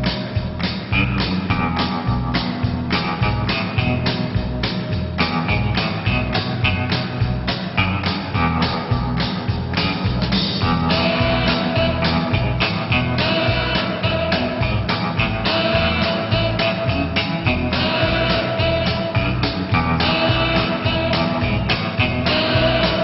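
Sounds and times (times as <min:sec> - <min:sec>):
electric guitar: 0:00.0 - 0:23.0
steady drum beat: 0:00.0 - 0:23.0.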